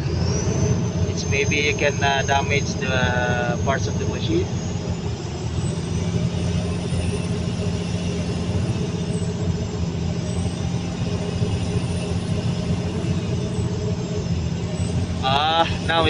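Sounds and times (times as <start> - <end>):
excavator diesel engine droning: 0.0 - 16.0.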